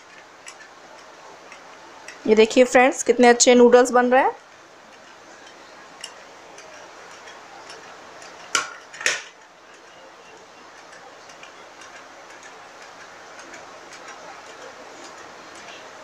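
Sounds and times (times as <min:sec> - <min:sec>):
faint steady clicking: 0:00.0 - 0:02.7, 0:04.3 - 0:16.0.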